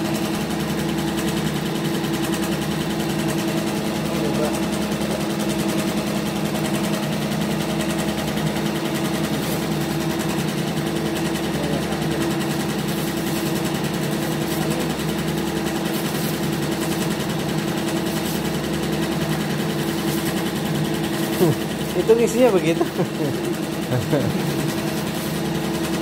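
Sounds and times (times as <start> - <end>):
machine motor hum: 0.0 - 26.0.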